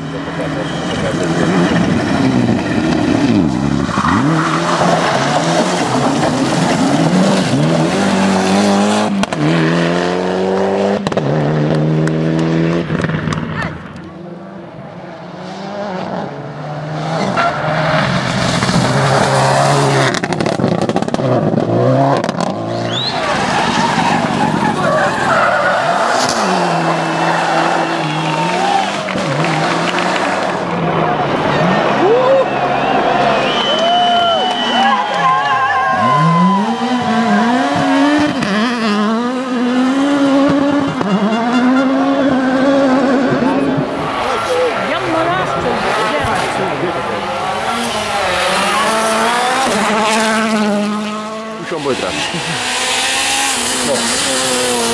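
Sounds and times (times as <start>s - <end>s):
rally car engine at high revs: 0.0s - 32.2s, 35.9s - 54.9s.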